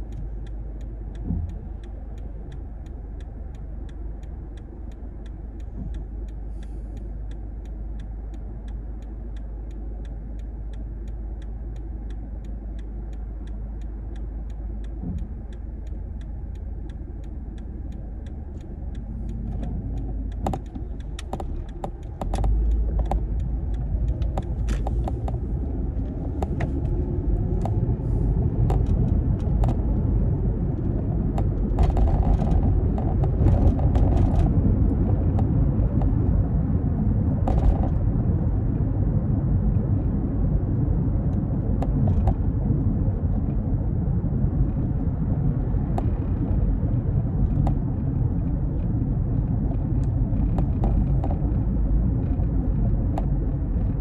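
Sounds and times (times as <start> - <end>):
car road and engine rumble: 0.0 - 54.0
turn signal ticking: 0.0 - 54.0.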